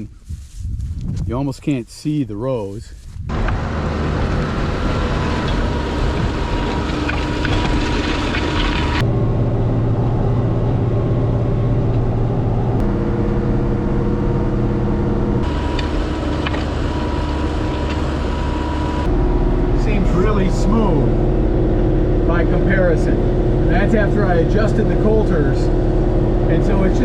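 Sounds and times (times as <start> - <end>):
tractor engine running: 3.2 - 27.0.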